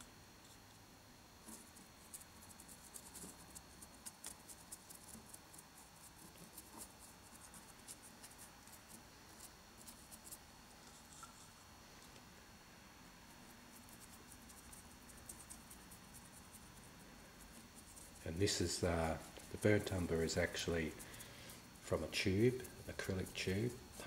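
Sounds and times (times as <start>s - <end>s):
paintbrush dabbing scratchily: 1.4s - 11.6s, 13.2s - 24.0s.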